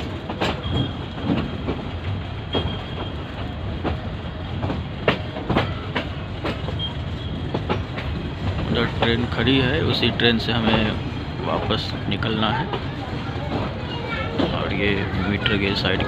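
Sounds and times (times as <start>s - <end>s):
train rumbling: 0.0s - 16.0s
wheels clacking over rail joints: 0.0s - 16.0s.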